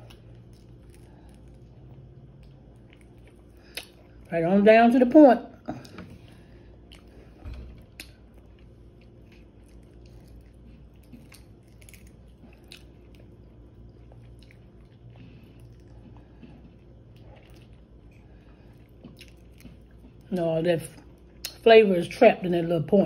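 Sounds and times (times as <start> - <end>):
chewing crispy chicken wing: 0.0 - 4.3, 5.7 - 21.6.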